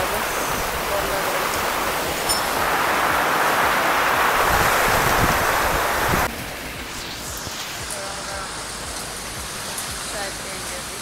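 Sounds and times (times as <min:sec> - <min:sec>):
surf rushing onto beach: 0:00.0 - 0:10.6
heavy rain: 0:00.0 - 0:11.0
wind: 0:00.0 - 0:11.0.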